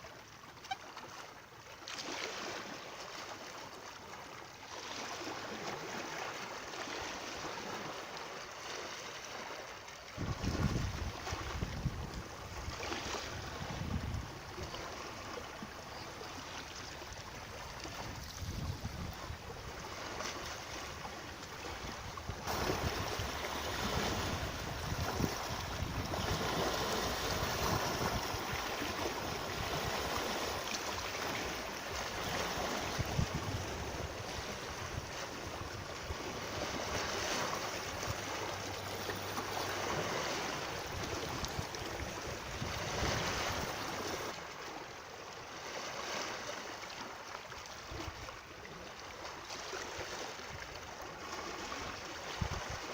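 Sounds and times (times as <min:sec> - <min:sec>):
rushing water: 0:00.0 - 0:52.9.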